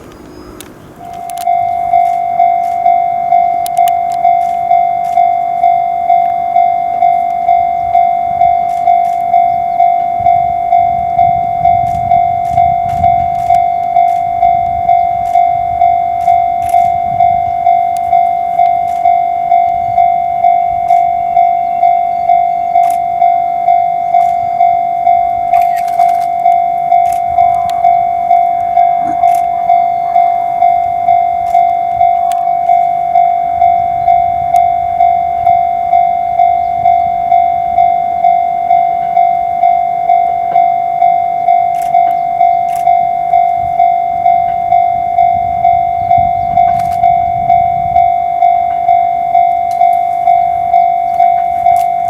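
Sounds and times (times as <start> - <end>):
level crossing warning bell: 0.0 - 52.0.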